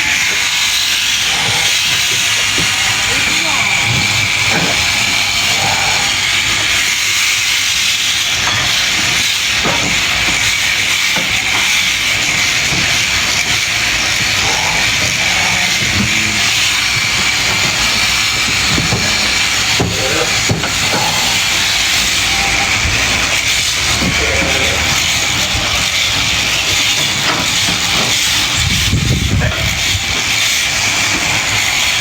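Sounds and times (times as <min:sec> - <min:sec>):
electric shears whining: 0:00.0 - 0:32.0.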